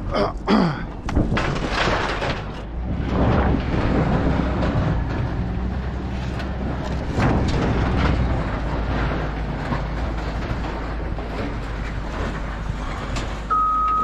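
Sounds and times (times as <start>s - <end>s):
short knocks and clatters: 0.9s - 13.5s.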